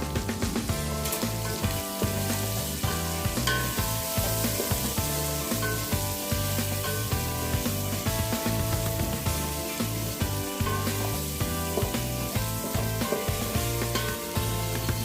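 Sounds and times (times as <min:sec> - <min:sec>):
background music with bass line: 0:00.0 - 0:15.0
food sizzling in a hot pan: 0:00.0 - 0:15.0.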